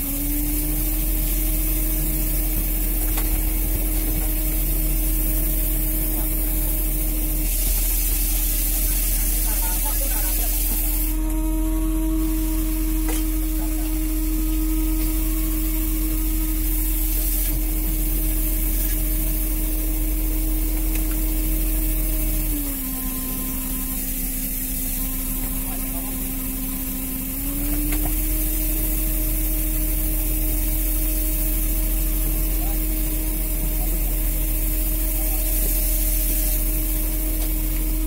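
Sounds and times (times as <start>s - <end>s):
boat engine and machinery droning: 0.0s - 38.0s.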